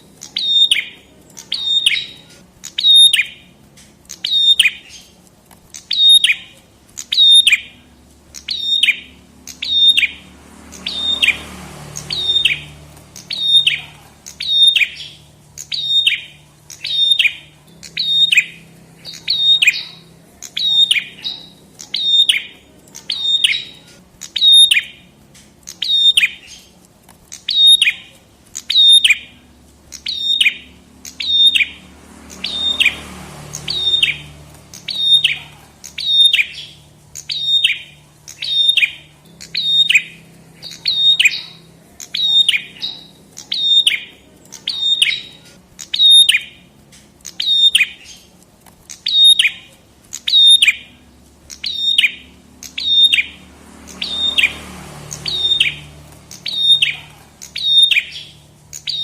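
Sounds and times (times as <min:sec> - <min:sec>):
bird calling downward chirp: 0:00.2 - 0:03.5, 0:05.8 - 0:25.0, 0:27.4 - 0:46.6, 0:47.3 - 0:48.3, 0:48.9 - 0:59.0.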